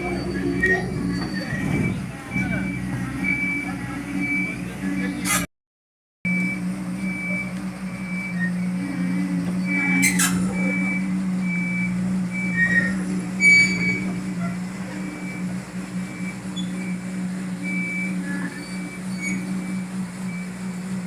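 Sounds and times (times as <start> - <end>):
warning alarm beeping: 0.0 - 5.4, 6.3 - 21.0
drilling rig engine humming: 0.0 - 5.5, 6.3 - 21.0.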